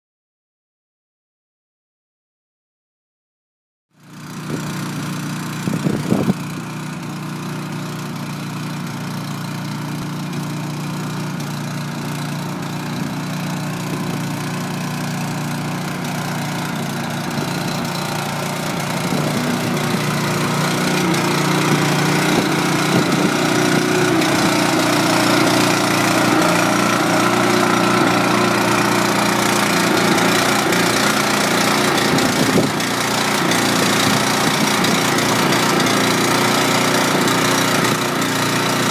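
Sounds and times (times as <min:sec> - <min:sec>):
small gas engine idling: 0:04.0 - 0:38.9.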